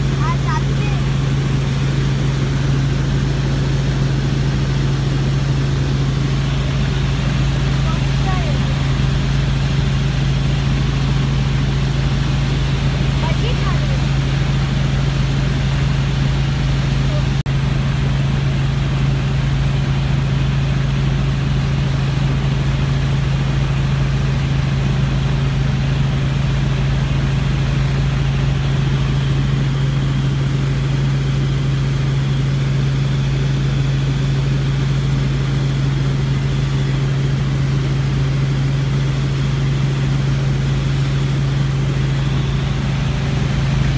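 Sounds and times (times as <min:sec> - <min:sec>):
helicopter engine and rotors drone: 0:00.0 - 0:43.9.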